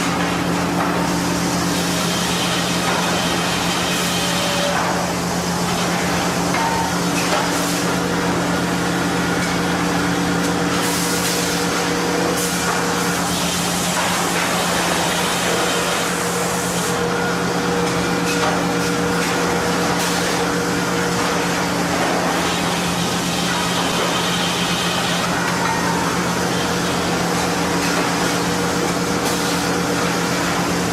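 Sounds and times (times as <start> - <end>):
sawmill machinery running: 0.0 - 30.9.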